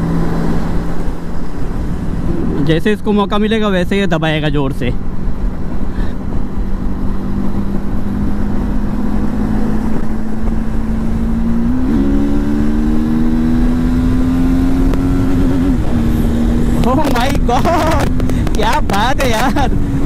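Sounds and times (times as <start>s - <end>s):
motorcycle engine accelerating: 0.0s - 3.4s, 4.4s - 20.0s
wind rumble: 0.0s - 20.0s.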